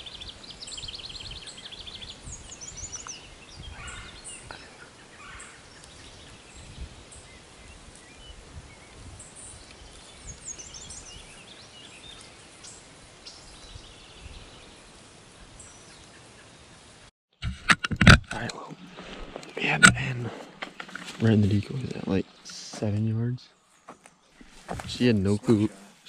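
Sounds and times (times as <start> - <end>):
songbirds chirping: 0.0 - 17.1, 18.0 - 26.0.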